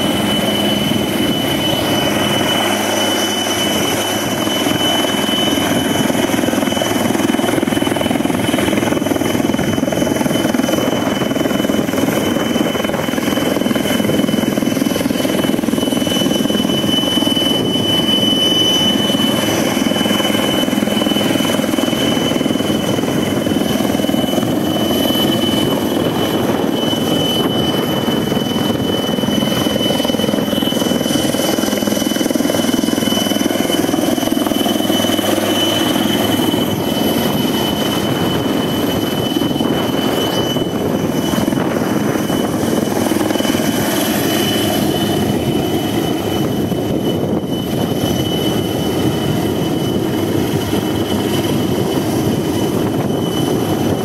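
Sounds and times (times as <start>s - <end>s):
helicopter hovering: 0.0s - 54.0s
high turbine whine: 0.0s - 54.0s.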